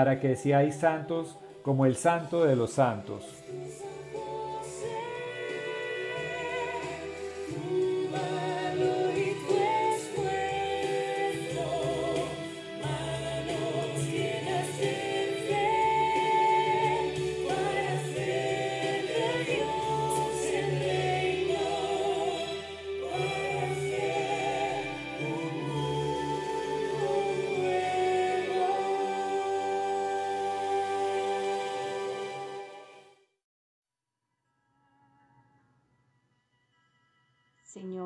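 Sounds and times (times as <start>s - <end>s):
choir singing a hymn: 0.0s - 33.1s.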